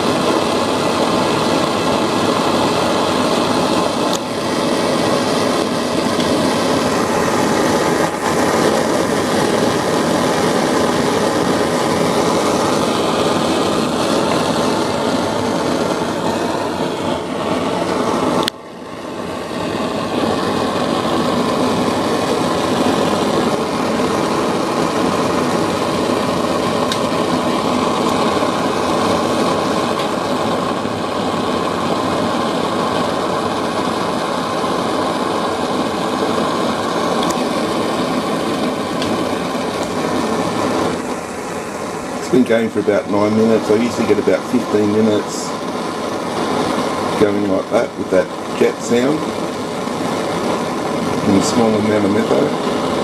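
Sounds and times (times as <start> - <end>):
spirit burner jet roaring: 0.0 - 53.0.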